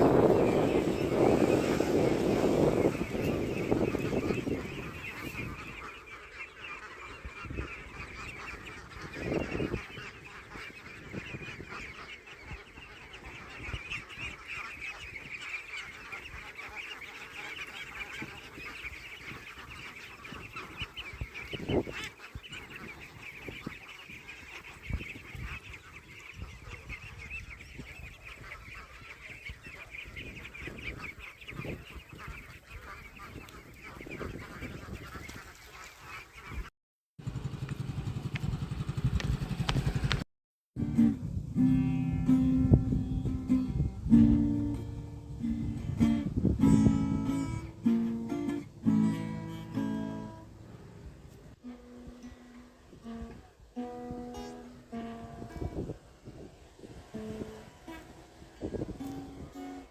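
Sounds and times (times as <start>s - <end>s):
waterfowl honking: 0.0s - 36.7s, 45.4s - 59.9s.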